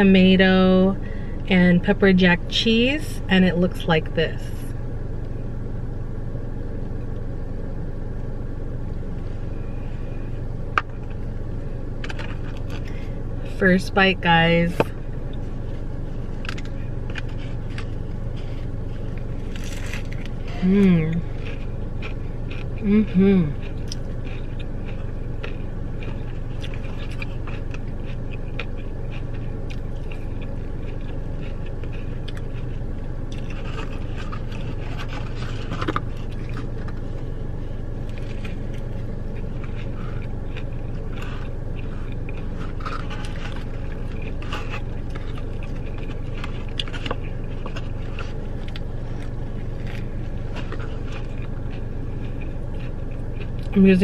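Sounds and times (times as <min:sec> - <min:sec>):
low hum inside a car: 0:00.0 - 0:54.0
chewing crunchy food: 0:08.9 - 0:13.6, 0:14.8 - 0:53.8.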